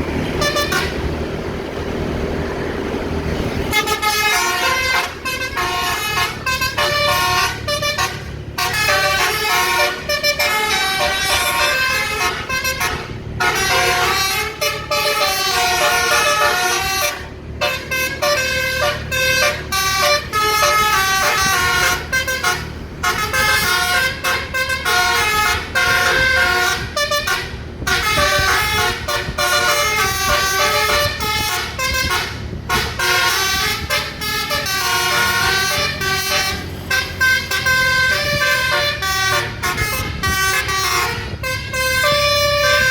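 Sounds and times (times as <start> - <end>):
bus engine rumble: 0.0 - 42.9
tuned air horns playing melody: 0.2 - 1.2, 3.7 - 42.9.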